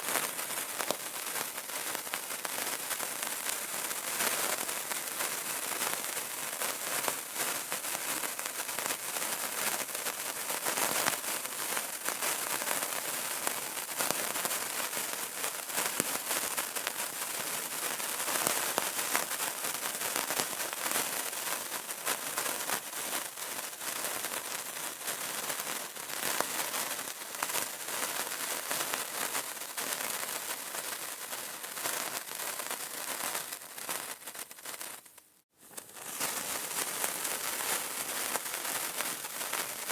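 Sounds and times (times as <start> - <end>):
candle flame crackling: 0.0 - 39.9.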